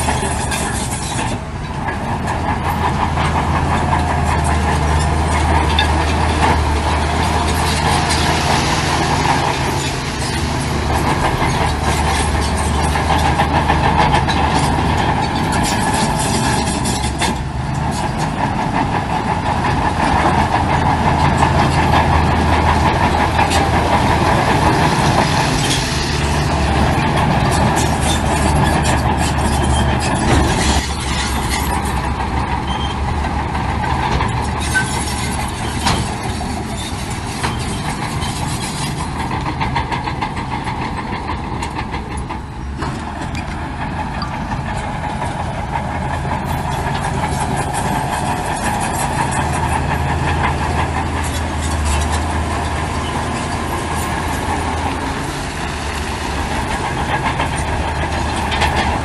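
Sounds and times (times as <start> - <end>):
diesel construction machinery running: 0.0 - 59.0
metallic clanks and rattles: 0.0 - 59.0.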